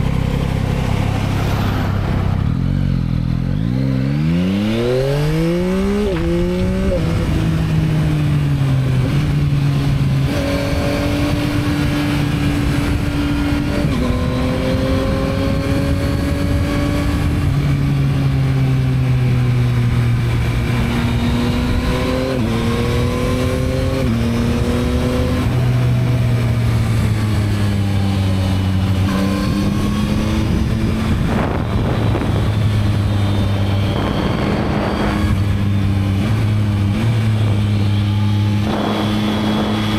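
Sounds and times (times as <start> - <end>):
motorcycle engine revving: 0.0 - 39.9
steady wind noise: 0.0 - 39.9.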